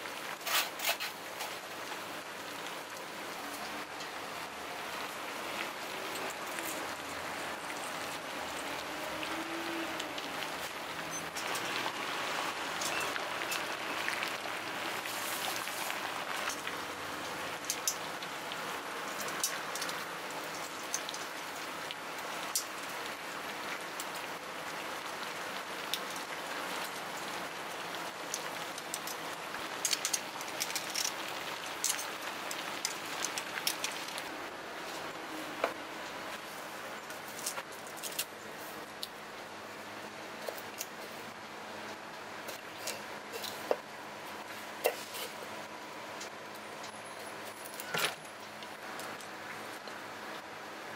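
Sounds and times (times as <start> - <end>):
water boiling in a pot: 0.0 - 50.9.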